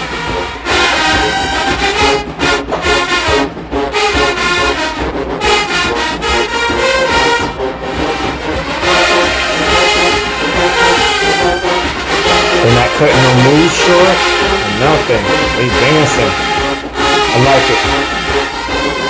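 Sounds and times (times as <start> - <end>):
marching band playing brass music: 0.0 - 19.0.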